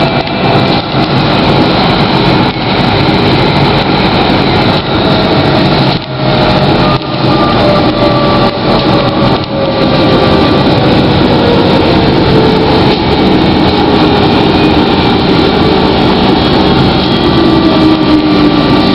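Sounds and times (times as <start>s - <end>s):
traction motor whine: 0.0s - 18.9s
tram ride noise: 0.0s - 18.9s.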